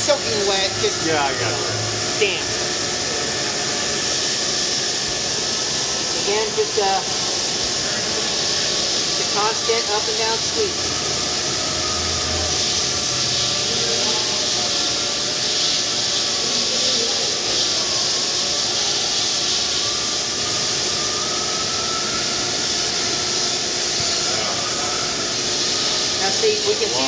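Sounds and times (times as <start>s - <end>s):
faint wavering whines: 0.0s - 27.0s
polishing wheel hiss: 0.0s - 27.0s.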